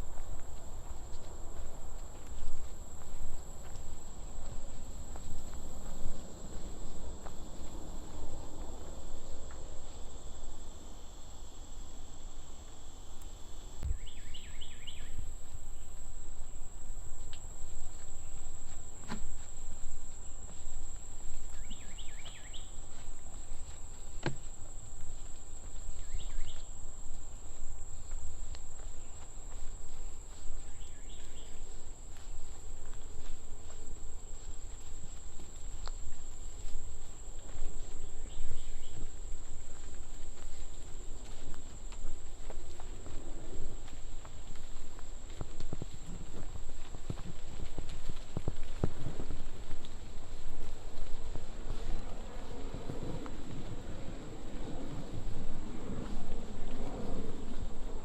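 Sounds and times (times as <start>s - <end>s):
insect chirping calls: 0.0s - 48.3s.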